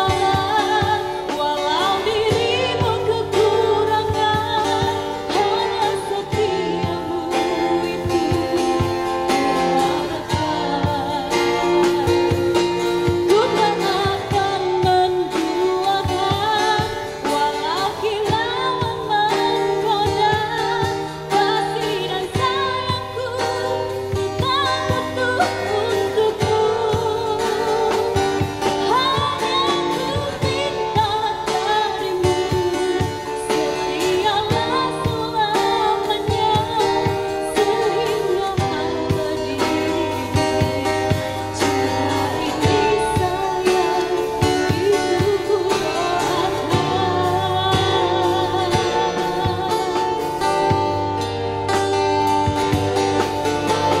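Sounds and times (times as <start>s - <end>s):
live band with drums and guitar: 0.0s - 54.0s
woman singing into a microphone: 0.0s - 54.0s.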